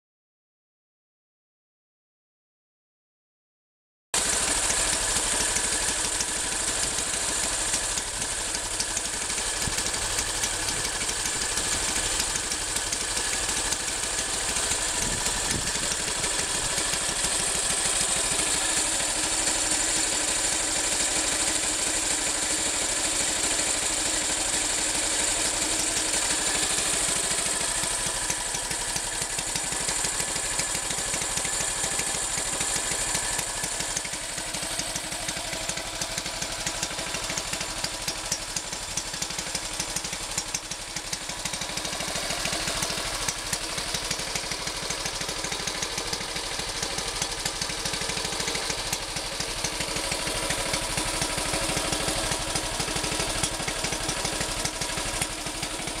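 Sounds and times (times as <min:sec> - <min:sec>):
tractor engine idling: 0:04.2 - 0:56.0.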